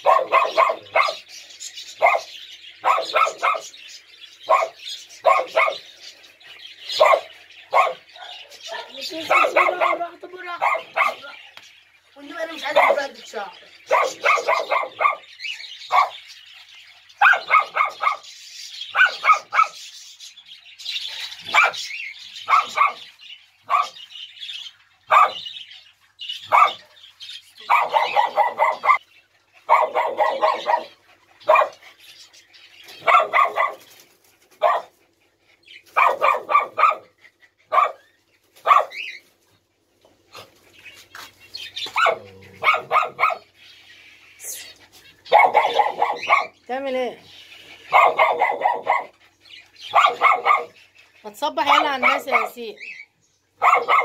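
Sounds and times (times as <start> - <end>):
small dogs barking: 0.0 - 6.0, 6.8 - 11.5, 12.2 - 16.4, 17.0 - 19.9, 21.0 - 24.2, 25.0 - 25.7, 26.3 - 32.0, 32.8 - 39.4, 40.2 - 43.6, 45.1 - 47.0, 47.8 - 54.0.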